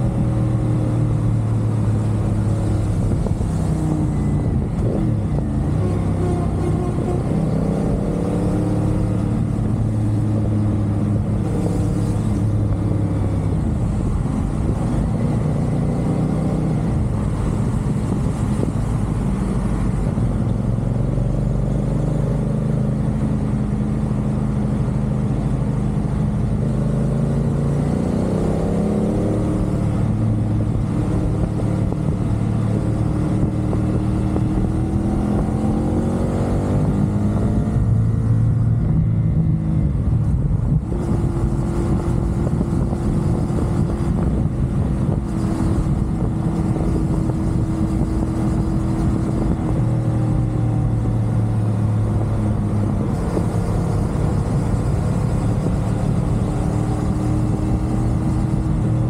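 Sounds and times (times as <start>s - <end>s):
motorcycle engine accelerating: 0.0s - 59.0s
wind and road rush: 0.0s - 59.0s.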